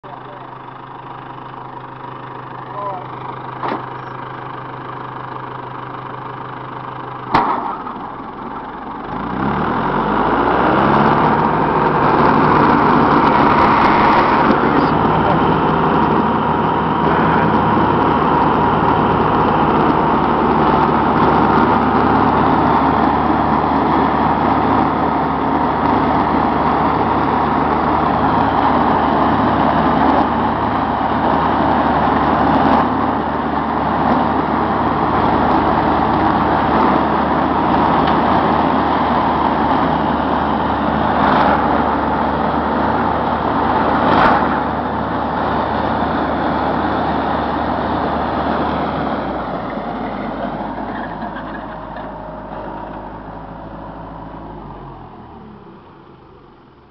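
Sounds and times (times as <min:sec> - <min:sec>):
mower blades whining: 0:00.0 - 0:56.9
tractor engine running under load: 0:00.0 - 0:56.9.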